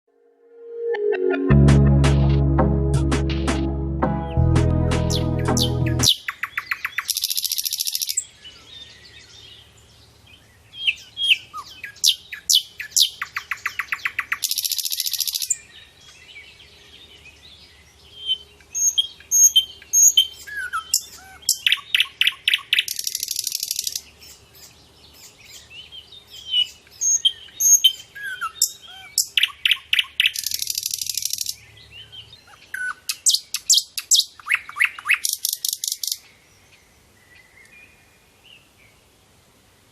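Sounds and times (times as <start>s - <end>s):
songbirds calling and singing: 5.0s - 39.9s.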